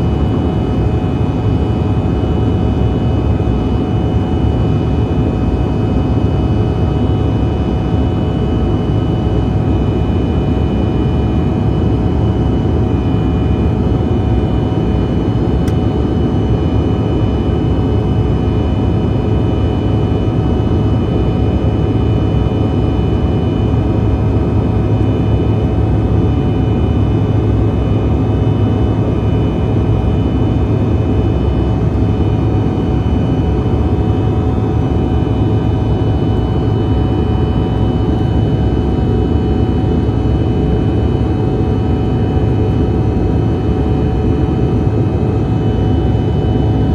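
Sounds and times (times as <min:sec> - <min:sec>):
jet engine cabin drone: 0:00.0 - 0:46.9.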